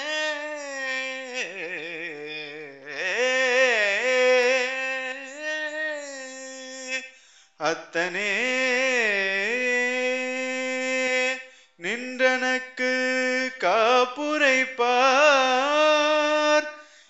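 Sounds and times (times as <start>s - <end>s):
person singing a hymn: 0.0s - 16.8s.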